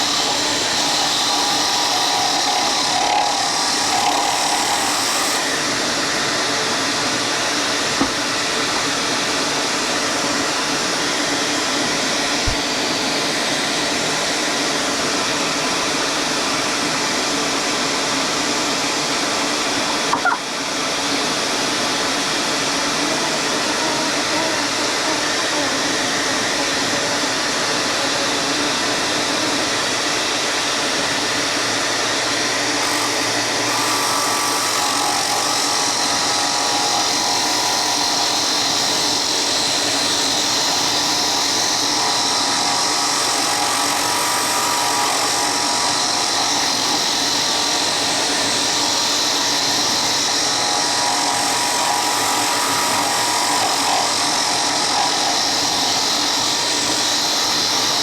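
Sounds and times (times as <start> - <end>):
electric power tool whining: 0.0 - 58.0.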